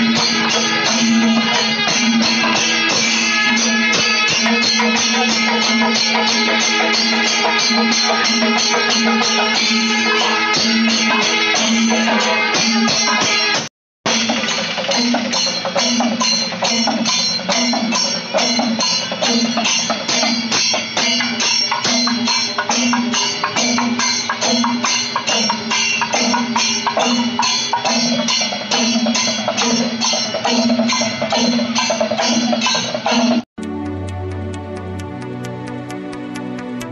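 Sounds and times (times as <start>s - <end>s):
drums beating steady rhythm: 0.0s - 36.9s.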